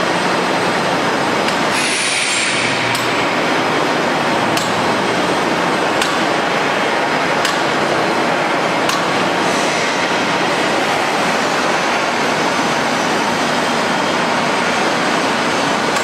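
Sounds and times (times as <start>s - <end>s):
pipe mill machinery noise: 0.0s - 16.0s.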